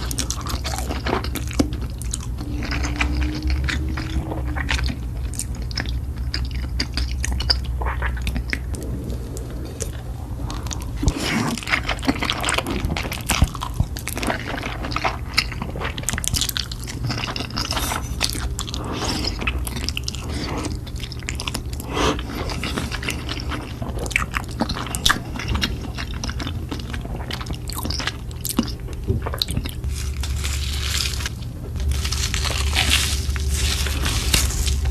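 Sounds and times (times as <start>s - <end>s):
crunchy chewing: 0.0s - 34.9s.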